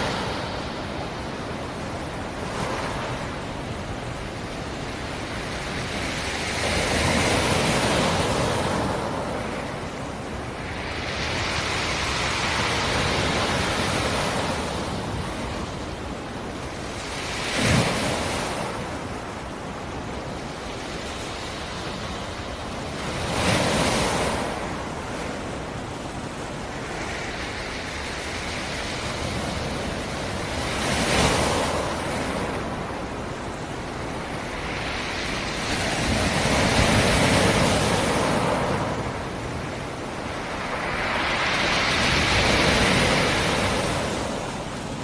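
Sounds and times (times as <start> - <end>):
steady sea wash: 0.0 - 45.0
waves breaking on shore: 0.0 - 45.0.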